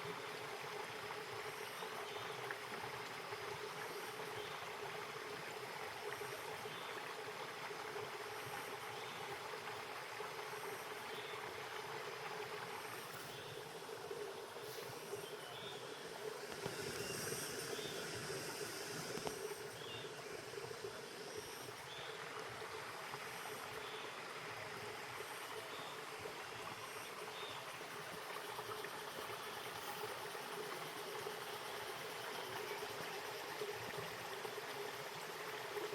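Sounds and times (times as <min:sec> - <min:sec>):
stream water flowing: 0:00.0 - 0:35.9.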